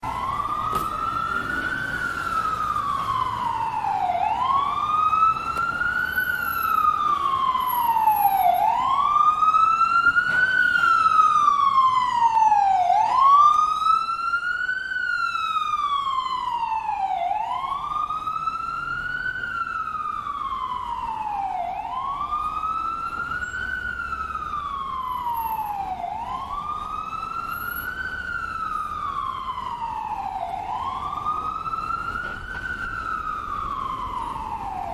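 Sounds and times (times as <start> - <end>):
ambulance siren wailing: 0.0 - 34.9.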